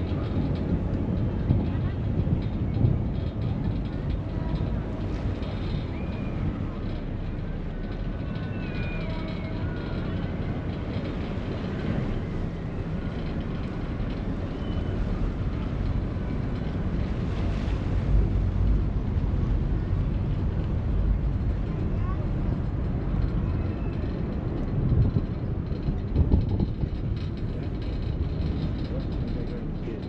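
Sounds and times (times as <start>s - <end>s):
ferry engine and water rumble: 0.0s - 30.0s
wind buffeting microphone: 0.0s - 30.0s.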